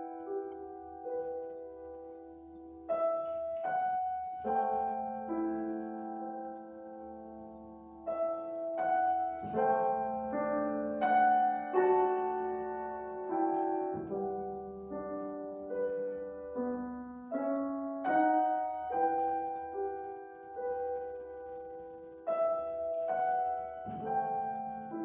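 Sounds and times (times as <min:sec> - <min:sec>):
slow classical piano piece: 0:00.0 - 0:25.0.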